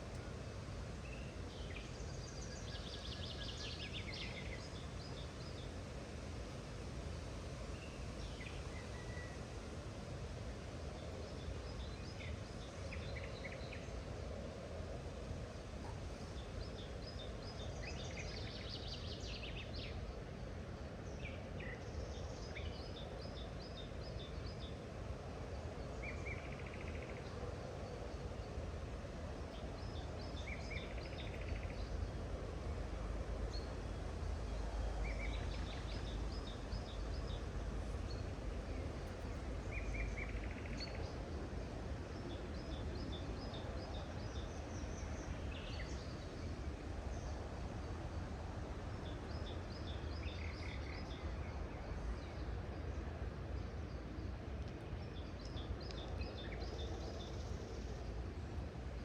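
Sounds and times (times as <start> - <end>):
songbirds chirping: 10.3 - 59.0.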